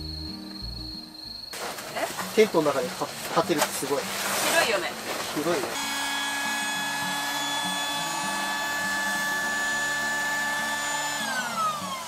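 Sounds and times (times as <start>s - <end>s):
electric air pump whining: 1.3s - 12.0s.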